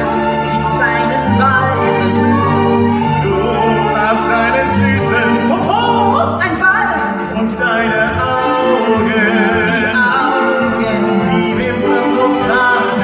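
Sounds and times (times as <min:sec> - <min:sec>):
live orchestra: 0:00.0 - 0:13.0
person singing with vibrato: 0:00.0 - 0:13.0.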